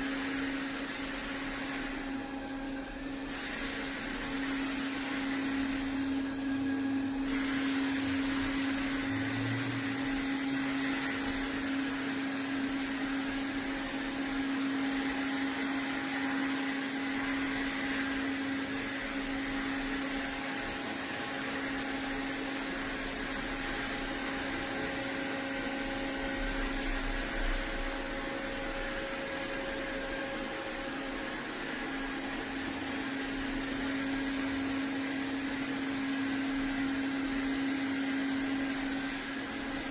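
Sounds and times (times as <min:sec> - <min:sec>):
robot vacuum humming: 0:00.0 - 0:39.9.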